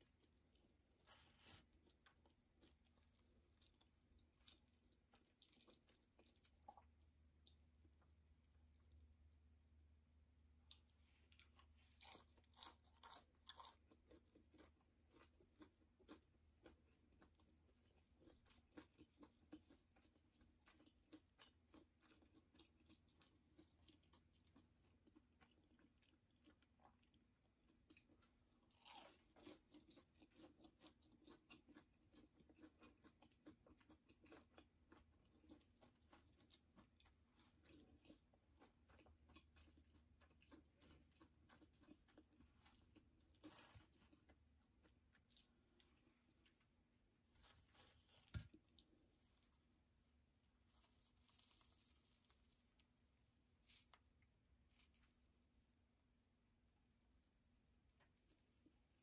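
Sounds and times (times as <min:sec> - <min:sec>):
chewing crunchy doughnut: 0:00.0 - 0:59.0.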